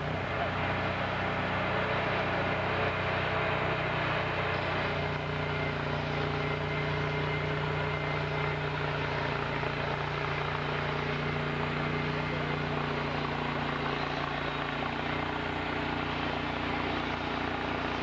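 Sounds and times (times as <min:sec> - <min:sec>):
sawmill engine running: 0:00.0 - 0:18.0.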